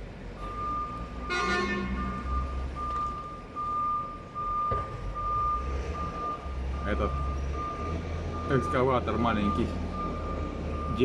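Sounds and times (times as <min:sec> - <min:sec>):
diesel engine rumble: 0:00.0 - 0:11.0
reversing alarm beeping: 0:00.4 - 0:11.0.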